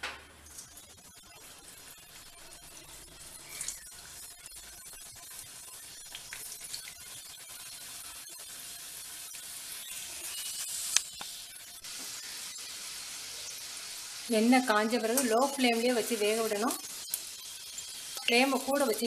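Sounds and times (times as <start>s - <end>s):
food sizzling in hot oil: 0.1s - 19.0s.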